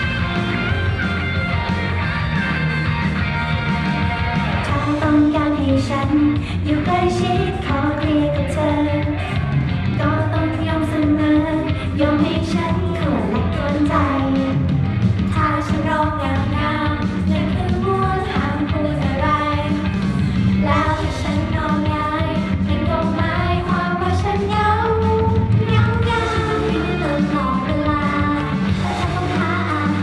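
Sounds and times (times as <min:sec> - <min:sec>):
pop song with female vocals: 0:03.8 - 0:30.0.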